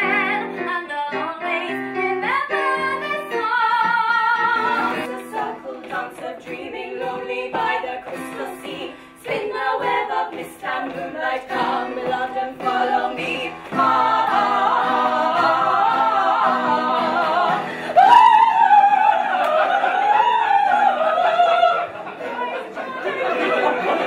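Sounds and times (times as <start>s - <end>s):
women singing together: 0.0s - 24.0s.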